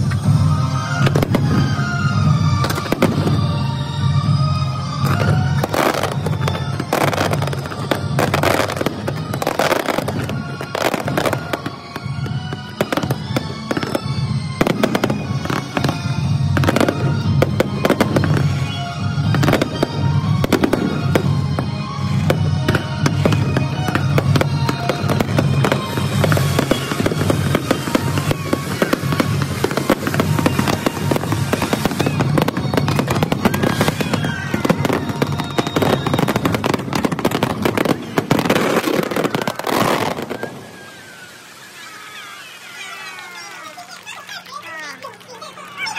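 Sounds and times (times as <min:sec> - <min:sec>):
music playing: 0:00.0 - 0:41.6
fireworks bursting: 0:00.0 - 0:45.9.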